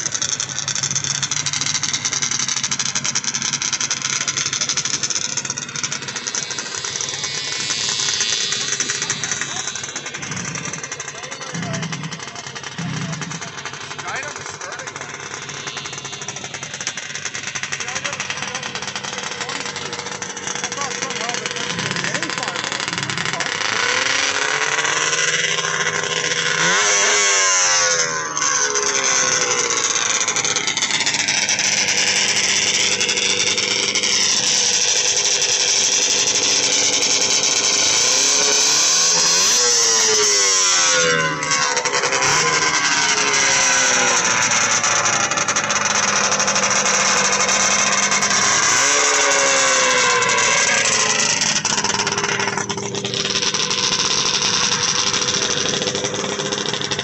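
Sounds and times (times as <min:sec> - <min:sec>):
two-stroke snowmobile engines revving: 0:00.0 - 0:57.0.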